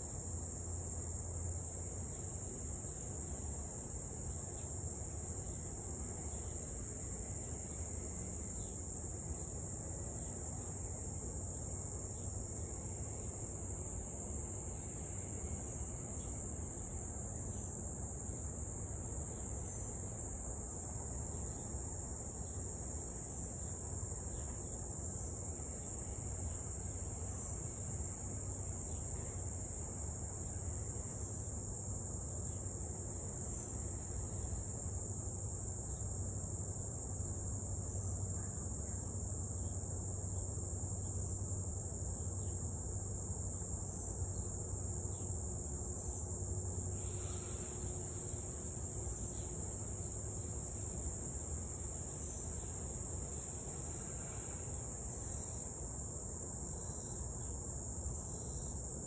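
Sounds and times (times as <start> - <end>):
insects buzzing: 0.0 - 59.0.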